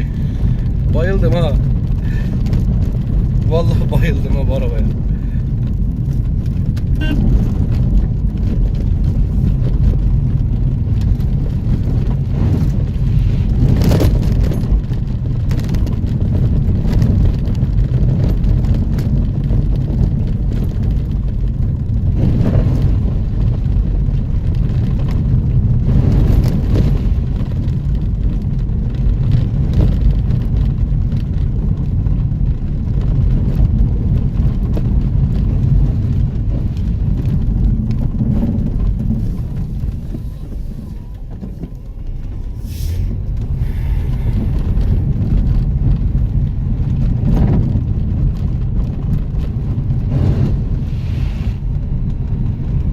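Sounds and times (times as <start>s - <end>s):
off-road vehicle engine rumble: 0.0s - 52.9s.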